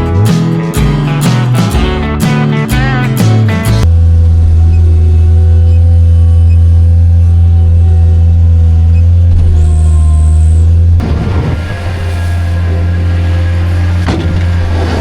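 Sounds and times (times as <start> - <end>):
heavy engine humming: 2.0 - 15.0.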